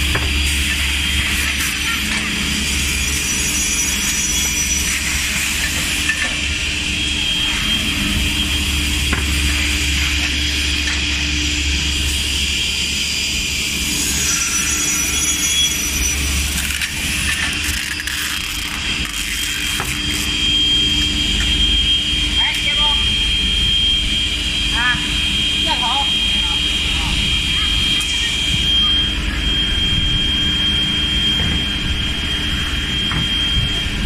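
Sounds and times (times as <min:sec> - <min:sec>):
saw machine droning with hum: 0:00.0 - 0:34.0.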